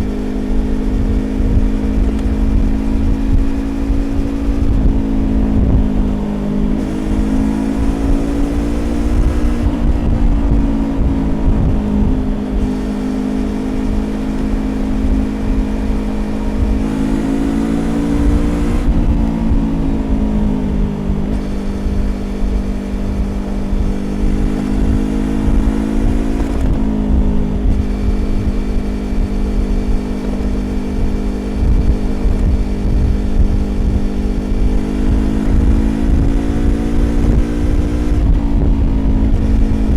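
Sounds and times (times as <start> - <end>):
motorcycle engine: 0.0 - 39.9
road rumble: 0.0 - 39.9
wind: 0.0 - 39.9.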